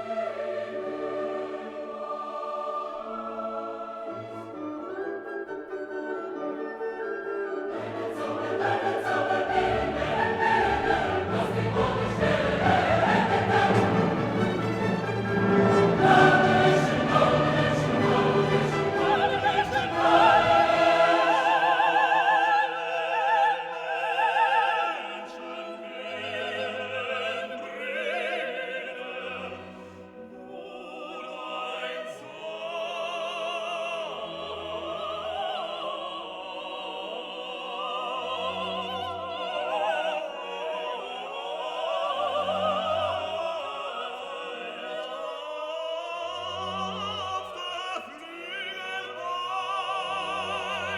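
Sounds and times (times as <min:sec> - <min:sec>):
operatic singing with orchestra: 0:00.0 - 0:50.9.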